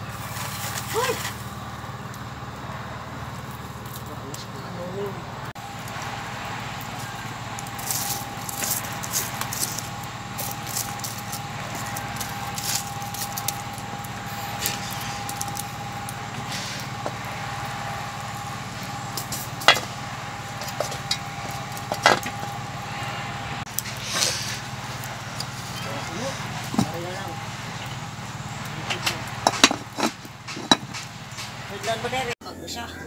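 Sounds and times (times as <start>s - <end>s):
wood fire crackling: 0.0s - 32.4s.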